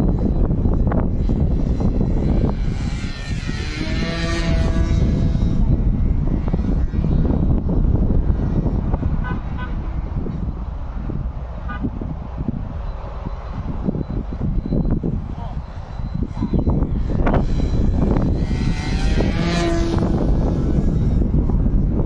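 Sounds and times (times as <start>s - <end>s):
model airplane engine passing: 0.0s - 11.8s, 12.7s - 22.0s
wind buffeting microphone: 0.0s - 22.0s.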